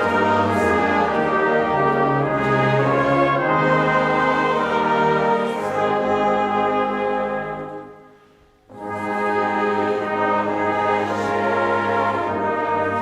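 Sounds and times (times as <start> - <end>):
slow brass-like chords: 0.0 - 13.0.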